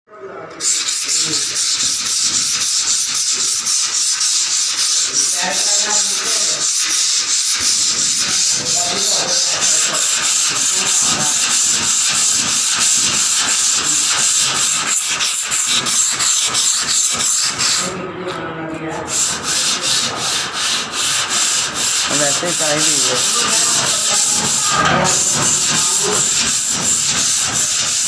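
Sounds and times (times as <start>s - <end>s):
abrasive scrubbing of rusty metal: 0.6s - 18.0s, 19.0s - 28.0s.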